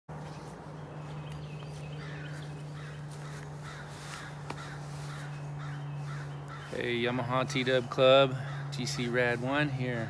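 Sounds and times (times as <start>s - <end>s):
birds calling: 0.1s - 10.0s
steady low hum: 0.1s - 10.0s.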